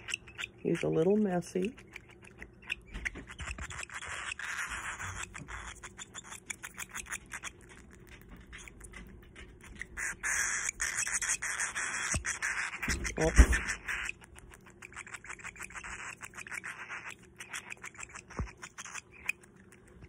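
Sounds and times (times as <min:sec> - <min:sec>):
baby bird begging chatter: 0:00.0 - 0:07.6, 0:09.7 - 0:19.4.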